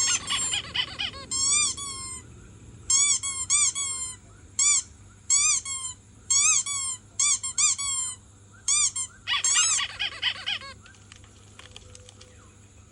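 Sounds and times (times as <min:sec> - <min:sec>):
high-pitched chirping squeaks: 0:00.0 - 0:02.2, 0:02.9 - 0:11.0.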